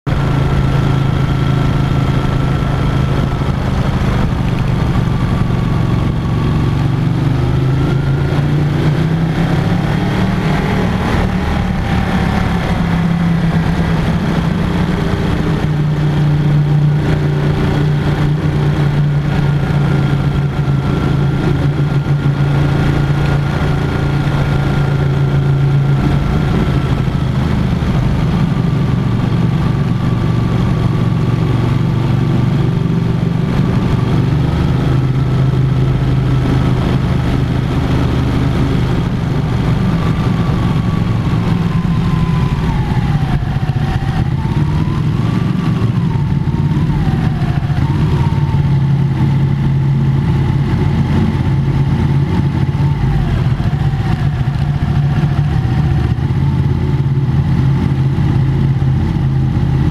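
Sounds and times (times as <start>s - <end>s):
motorcycle engine cruising in tunnel: 0.0s - 59.9s.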